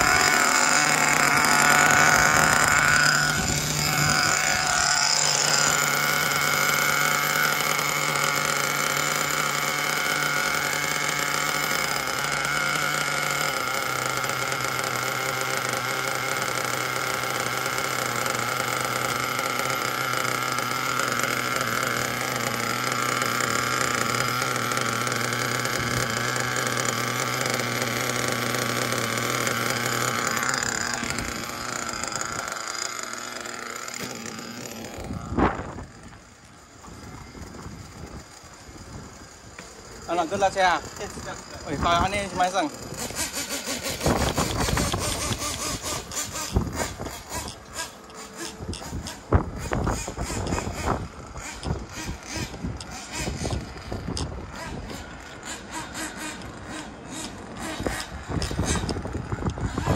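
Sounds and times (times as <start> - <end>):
high engine buzz falling in pitch: 0.0 - 59.9
small nitro engine idling: 0.0 - 59.9.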